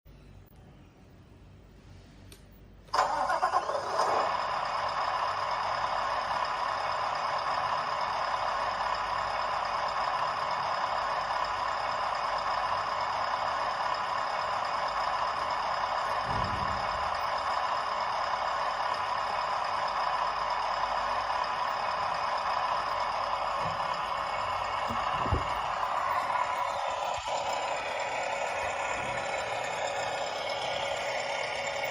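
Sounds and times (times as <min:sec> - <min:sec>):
diesel engine sound through small speaker: 0:00.1 - 0:31.9.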